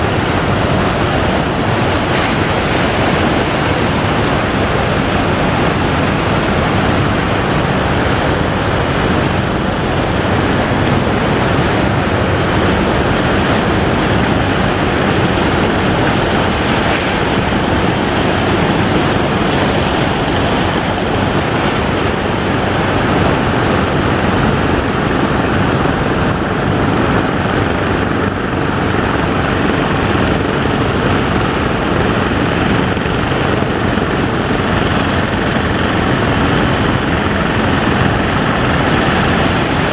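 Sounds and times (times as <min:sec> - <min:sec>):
ocean surf breaking: 0:00.0 - 0:39.9
wind buffeting microphone: 0:00.0 - 0:39.9.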